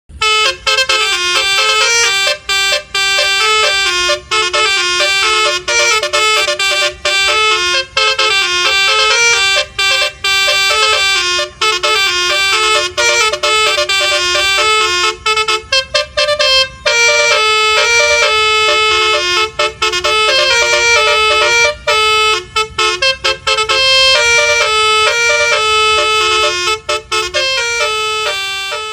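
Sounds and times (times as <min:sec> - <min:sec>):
musical bus air horn: 0:00.1 - 0:28.9.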